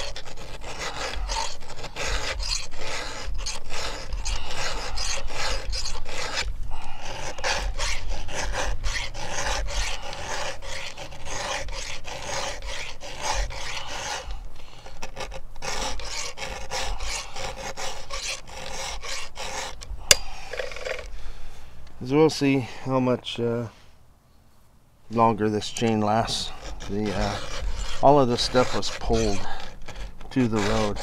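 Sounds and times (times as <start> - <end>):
file rasping on chainsaw chain: 0.0 - 21.0, 25.6 - 31.0.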